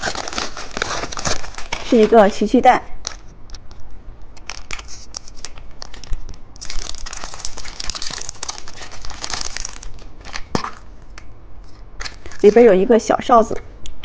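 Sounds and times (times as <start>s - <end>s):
foil wrapper crinkling: 0.0s - 3.8s, 4.4s - 12.8s.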